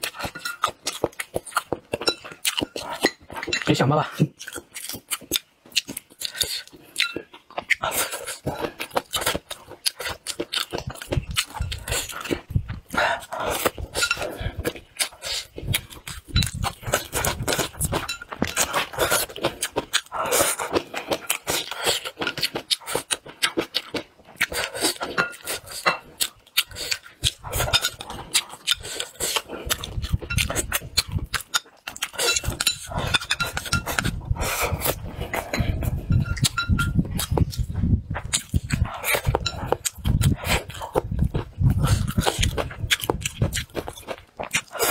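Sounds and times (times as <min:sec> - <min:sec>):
chewing and lip-smacking: 0:00.0 - 0:44.9.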